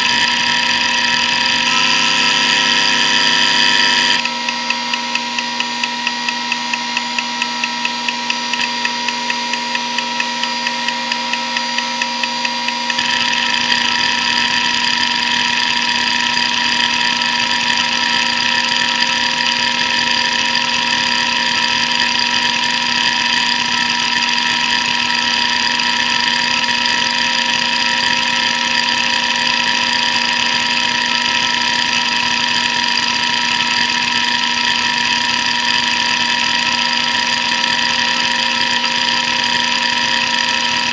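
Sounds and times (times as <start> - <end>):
hard drive spindle whine: 0.0 - 40.9.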